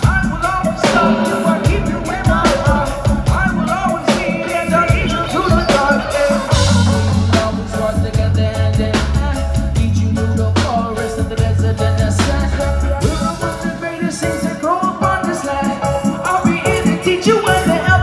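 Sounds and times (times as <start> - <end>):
drums: 0.0 - 18.0
heavy bass line: 0.0 - 18.0
keyboard: 0.0 - 18.0.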